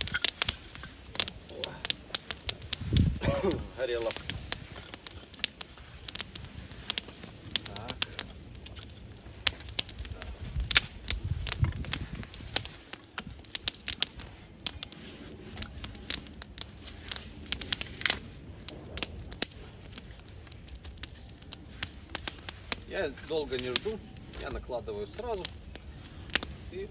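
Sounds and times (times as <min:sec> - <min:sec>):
campfire crackling and popping: 0:00.0 - 0:26.9.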